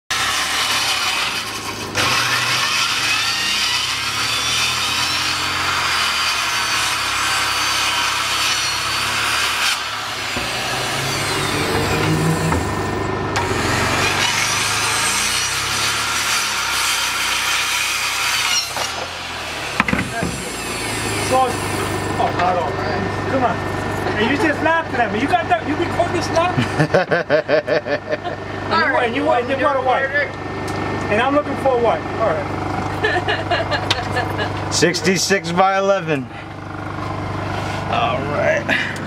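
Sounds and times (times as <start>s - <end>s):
circular saw cutting plywood: 0.1s - 30.3s, 30.9s - 39.0s.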